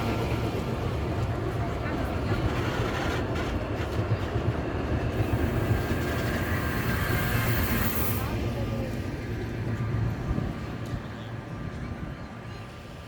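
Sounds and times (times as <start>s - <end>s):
tram wheels on rail: 0.0s - 13.0s.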